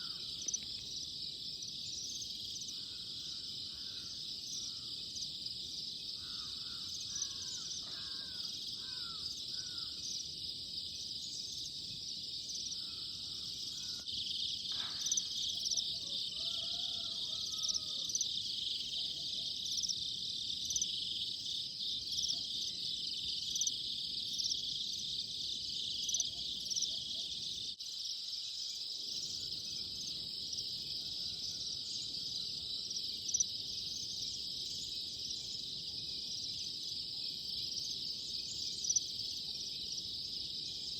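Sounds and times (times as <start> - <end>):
insects chorus trilling: 0.0 - 40.9.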